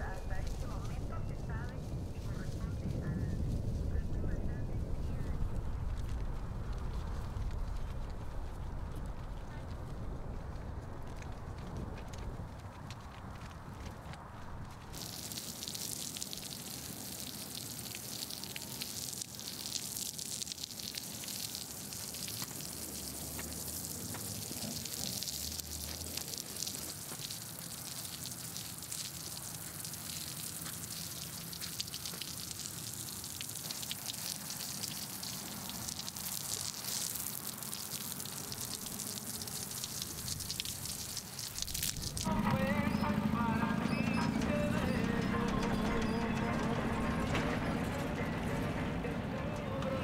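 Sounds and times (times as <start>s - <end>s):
hose spraying water on dirt: 0.0s - 12.2s, 14.6s - 47.5s.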